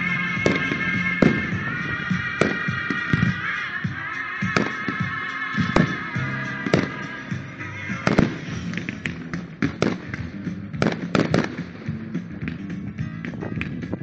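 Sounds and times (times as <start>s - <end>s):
fireworks bangs: 0.0s - 11.9s
disco music: 0.0s - 14.0s.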